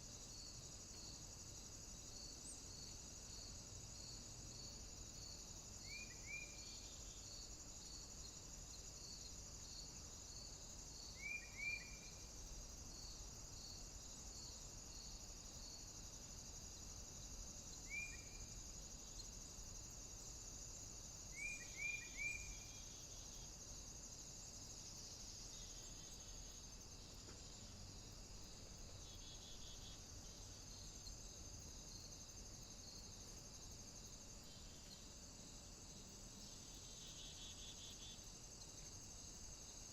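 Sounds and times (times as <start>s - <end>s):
insects chirring: 0.0s - 39.9s
pulsing insect chirp: 0.0s - 39.9s.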